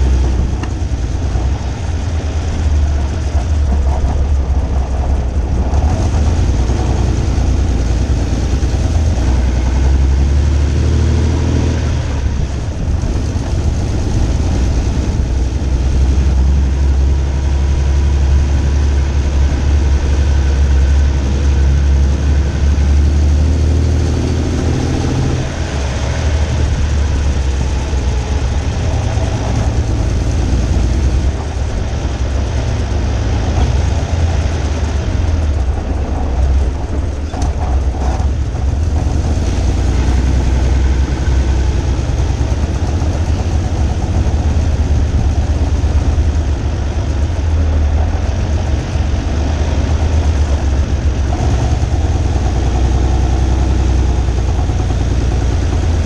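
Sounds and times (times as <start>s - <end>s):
car engine running at low revs: 0.0s - 56.0s.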